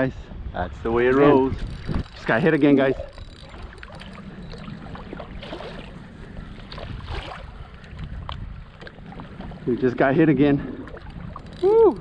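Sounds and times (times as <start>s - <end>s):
wind noise on microphone: 0.0s - 9.7s
water splashes: 1.7s - 12.0s.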